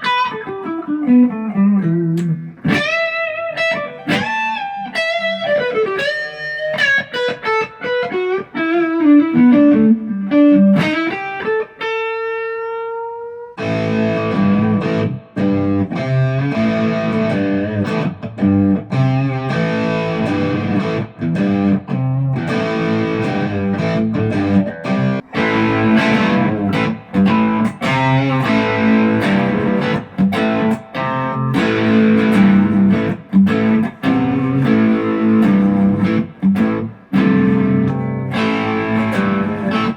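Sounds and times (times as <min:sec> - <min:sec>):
distorted guitar rhythm playing: 0:00.0 - 0:39.9
electric guitar lead line: 0:00.0 - 0:39.9.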